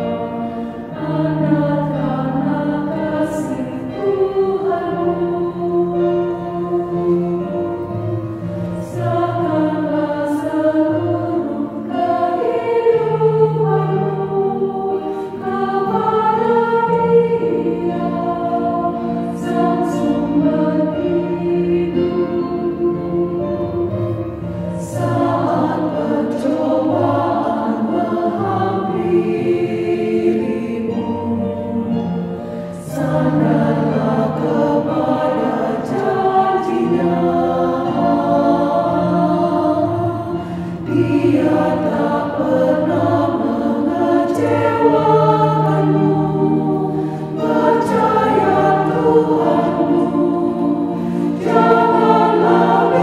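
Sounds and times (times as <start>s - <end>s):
women's choir singing a hymn: 0.0s - 53.0s.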